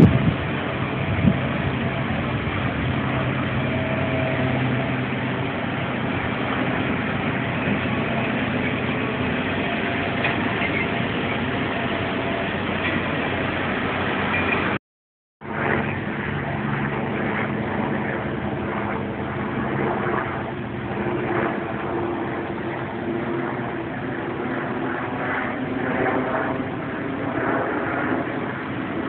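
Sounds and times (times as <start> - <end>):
outdoor noise rush: 0.0 - 14.8, 15.4 - 29.0.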